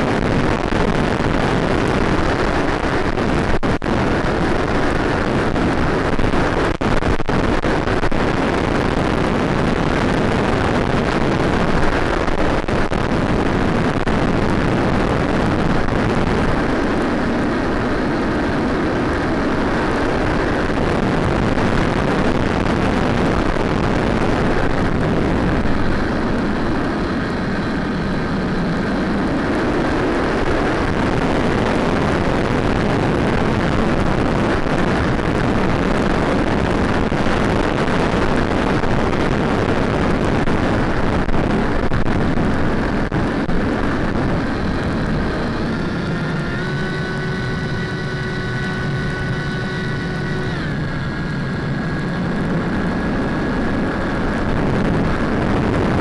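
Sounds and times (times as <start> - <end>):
model aircraft wind and motor: 0.0 - 56.0
whining tones: 0.0 - 56.0.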